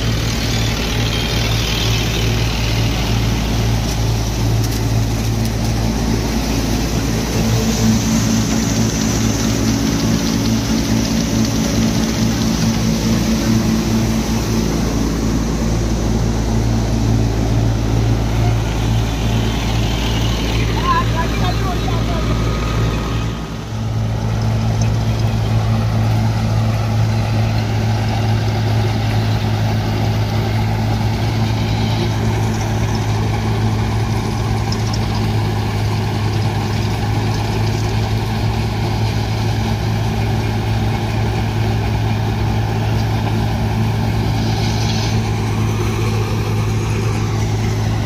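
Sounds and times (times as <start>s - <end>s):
thresher whirring: 0.0s - 48.0s
tractor engine droning: 0.0s - 48.0s.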